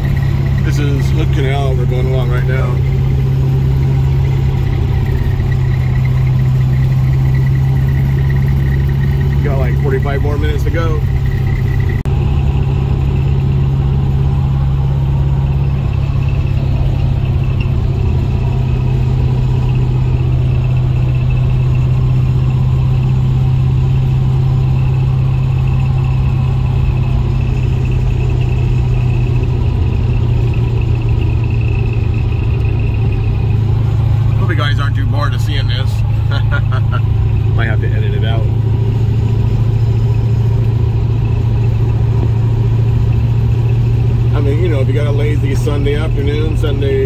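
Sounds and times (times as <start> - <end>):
car engine droning: 0.0 - 47.0.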